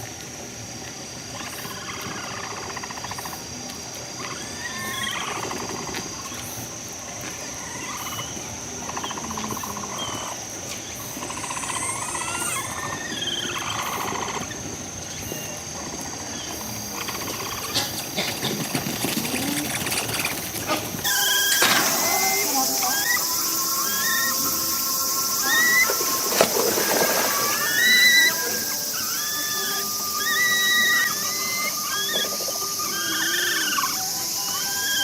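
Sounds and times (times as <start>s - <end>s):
high-pitched insect drone: 0.0s - 35.0s
capybaras purring calls: 1.2s - 35.0s.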